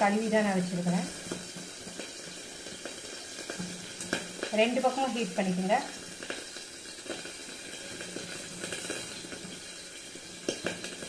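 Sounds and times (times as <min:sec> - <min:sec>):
gas burner flame hissing: 0:00.0 - 0:11.0.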